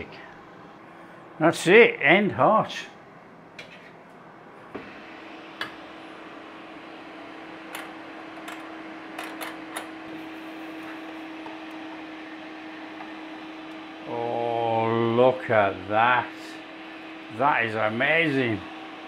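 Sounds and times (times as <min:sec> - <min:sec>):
air fryer fan humming: 0:00.0 - 0:19.0.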